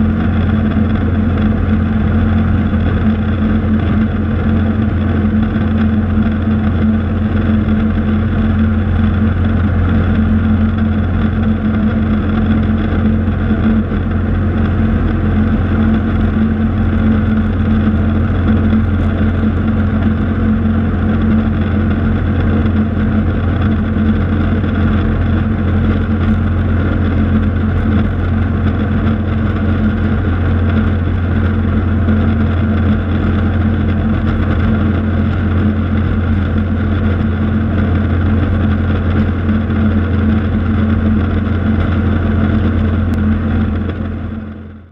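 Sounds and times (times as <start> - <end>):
propeller aircraft engine drone: 0.0 - 44.9.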